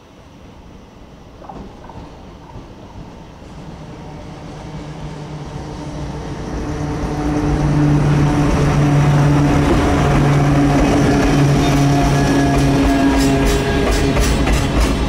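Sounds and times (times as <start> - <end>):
freight train passing: 0.0 - 15.0.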